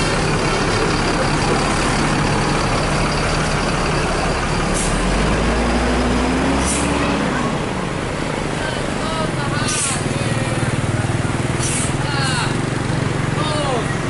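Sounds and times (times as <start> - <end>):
diesel bus engine rumbling: 0.0 - 14.0.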